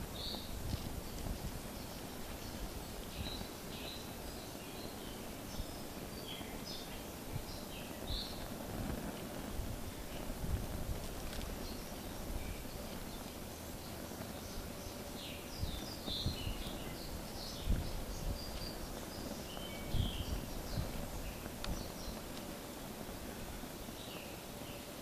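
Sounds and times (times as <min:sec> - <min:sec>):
wind buffeting microphone: 0:00.0 - 0:24.0
small birds chirping: 0:00.0 - 0:25.0.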